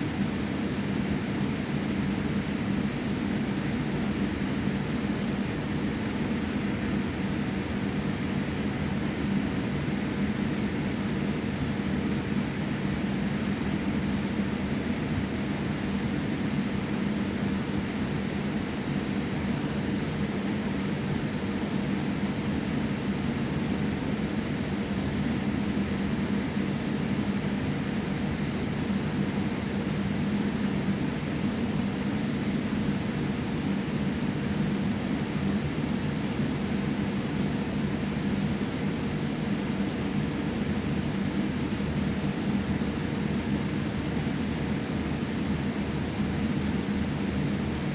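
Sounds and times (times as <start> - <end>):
airliner cabin engine rush: 0.0 - 47.9.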